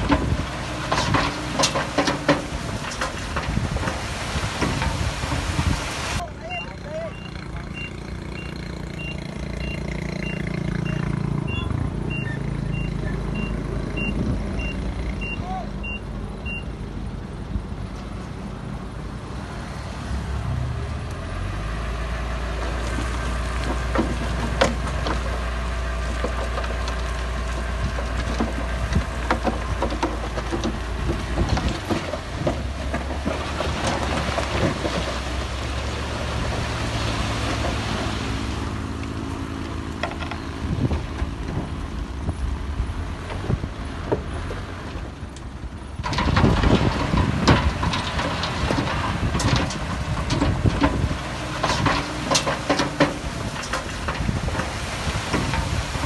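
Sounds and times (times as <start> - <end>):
diesel machinery droning: 0.0 - 56.0.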